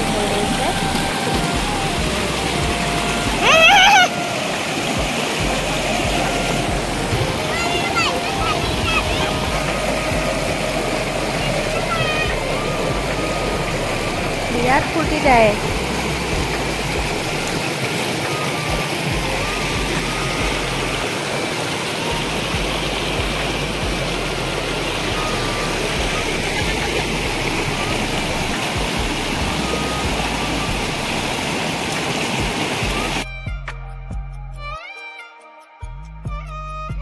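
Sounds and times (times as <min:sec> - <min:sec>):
water pouring over rock ledges: 0:00.0 - 0:33.3
gentle background music: 0:00.0 - 0:37.0.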